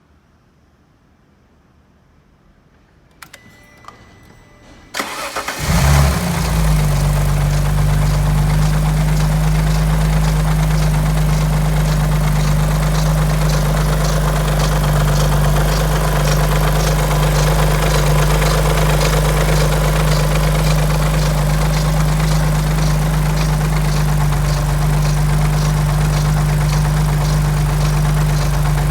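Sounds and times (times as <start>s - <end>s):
engine starter clicks: 3.1s - 4.0s, 4.6s - 28.9s
engine cranking: 4.9s - 28.9s
car engine idling with ticking: 5.0s - 28.9s.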